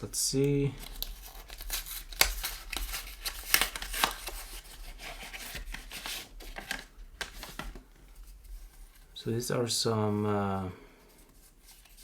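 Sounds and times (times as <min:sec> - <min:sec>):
wrapping rustling and crinkling: 0:00.0 - 0:09.2, 0:11.0 - 0:12.0.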